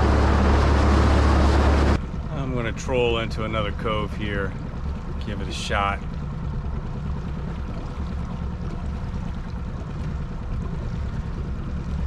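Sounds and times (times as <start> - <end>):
boat motor low rumble: 0.0 - 12.0.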